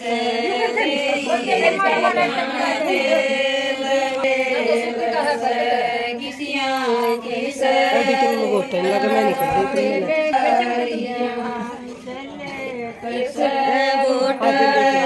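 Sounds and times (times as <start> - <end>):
women singing in chorus: 0.0 - 15.0.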